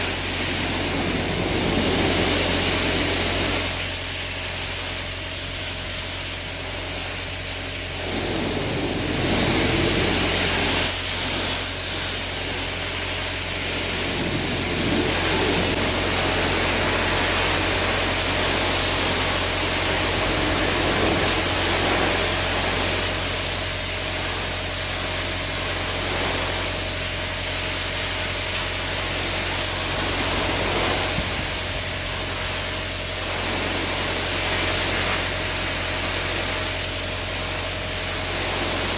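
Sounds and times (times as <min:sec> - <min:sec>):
pressure washer water hiss: 0:00.0 - 0:38.9.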